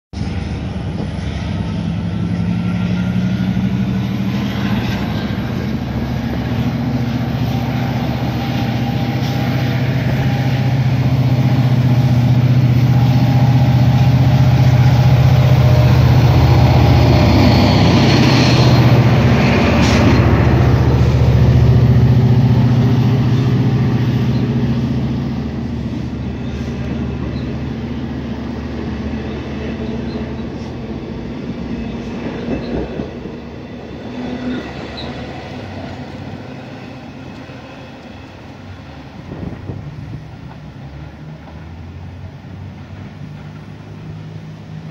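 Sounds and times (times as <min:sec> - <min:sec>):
locomotive engine droning: 0:00.2 - 0:44.9
train coaches rolling by: 0:00.2 - 0:44.9.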